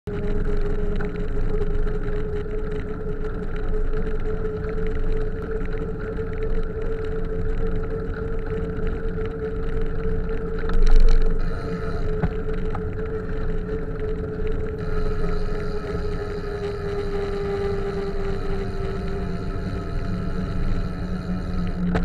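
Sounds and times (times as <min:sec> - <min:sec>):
steady hum: 0:00.1 - 0:22.0.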